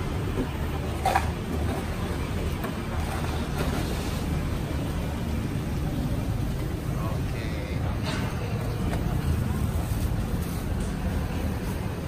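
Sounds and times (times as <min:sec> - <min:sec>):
motorbike engines: 0:00.0 - 0:12.0
street traffic rumble: 0:00.0 - 0:12.0.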